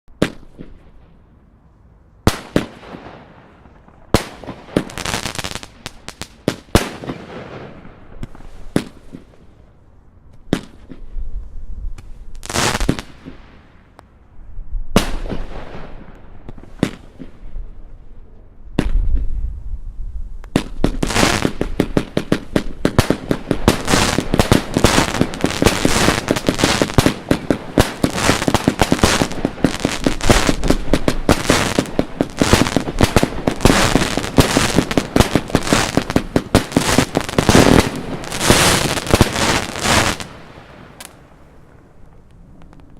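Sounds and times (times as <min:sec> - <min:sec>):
firework shots with crackling: 0:00.1 - 0:01.1, 0:02.2 - 0:09.5, 0:10.3 - 0:11.1, 0:11.9 - 0:14.0, 0:14.9 - 0:17.5, 0:18.8 - 0:19.4, 0:20.4 - 0:42.9.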